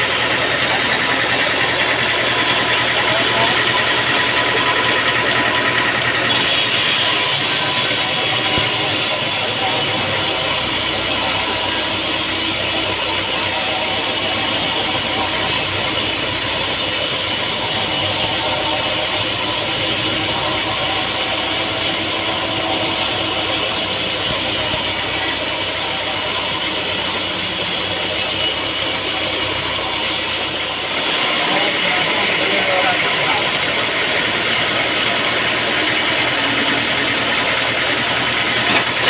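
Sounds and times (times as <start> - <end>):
high machine whine: 0.0 - 39.0
sawmill machinery drone: 0.0 - 39.0.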